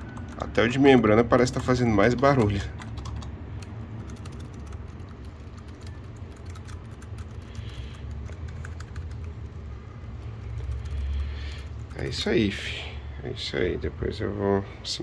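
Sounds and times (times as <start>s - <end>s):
mechanical keyboard typing: 0.0s - 12.1s.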